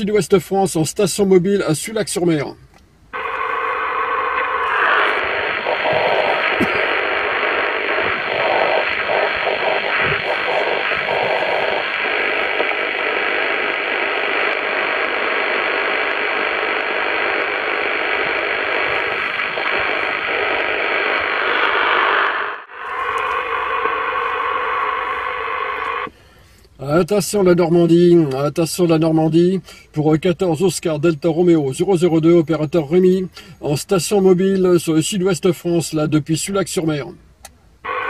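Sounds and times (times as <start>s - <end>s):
radio static hiss: 0.0s - 37.2s, 37.8s - 38.0s.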